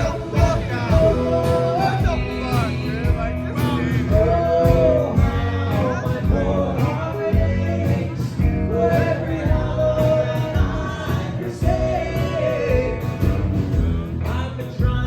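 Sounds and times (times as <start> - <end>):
country band with guitar: 0.0 - 15.0
man singing long notes: 0.0 - 15.0.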